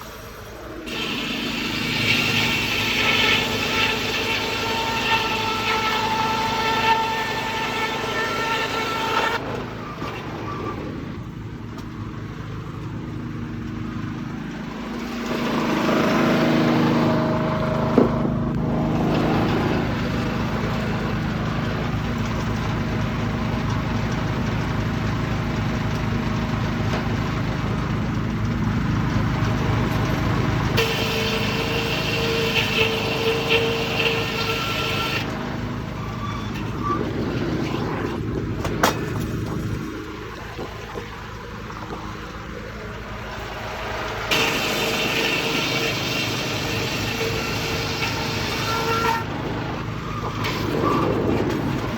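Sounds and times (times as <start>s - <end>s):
muffled diesel engine running: 0.0s - 51.9s.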